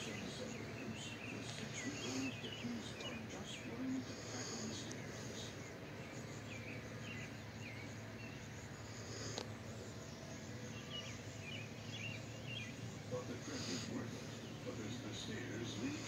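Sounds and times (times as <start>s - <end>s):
bird chirps: 0.0s - 16.0s
outdoor background noise: 0.0s - 16.0s.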